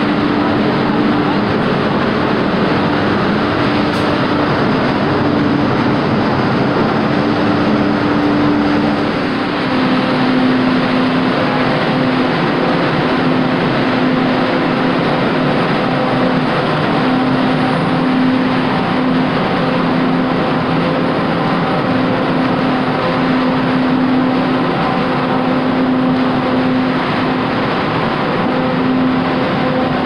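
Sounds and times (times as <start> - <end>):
train drive humming: 0.0 - 30.0
train wheels rumbling on rail: 0.0 - 30.0.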